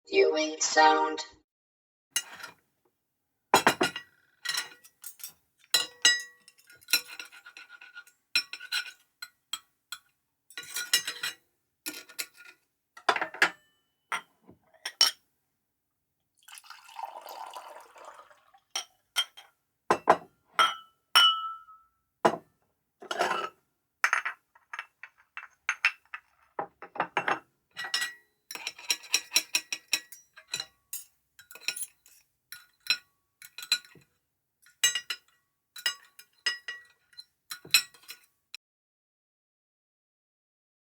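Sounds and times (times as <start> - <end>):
dishes and glasses clinking: 2.2 - 2.6, 3.6 - 15.2, 16.5 - 38.3.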